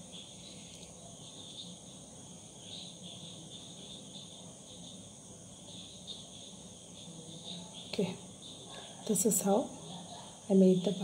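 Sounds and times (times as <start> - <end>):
faint high-pitched chirping: 0.0 - 11.0.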